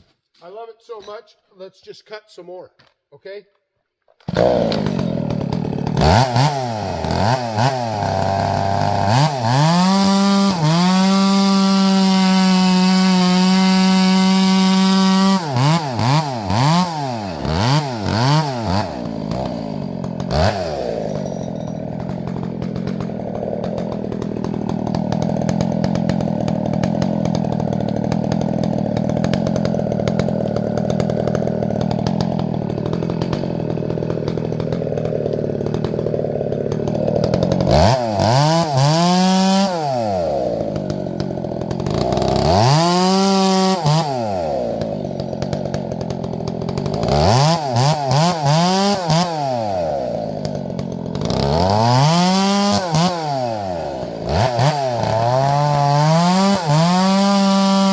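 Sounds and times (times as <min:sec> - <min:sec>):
chainsaw revving: 0:04.2 - 0:57.9.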